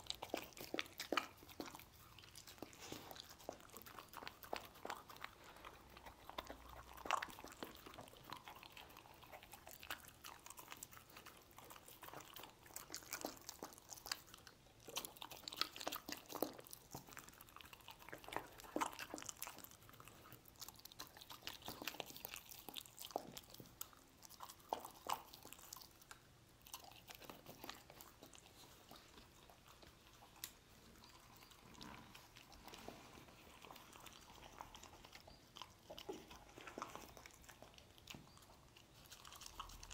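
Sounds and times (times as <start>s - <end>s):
dog chewing meat: 0.0s - 39.9s
dog licking: 0.0s - 39.9s.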